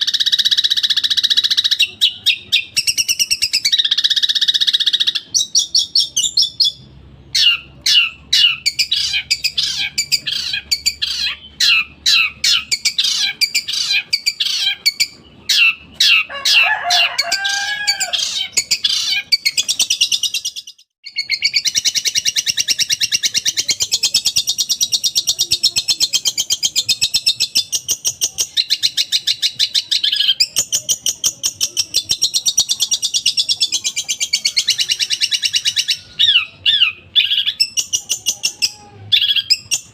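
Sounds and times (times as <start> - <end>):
bird singing fast varied song: 0.0 - 16.3, 18.2 - 39.9.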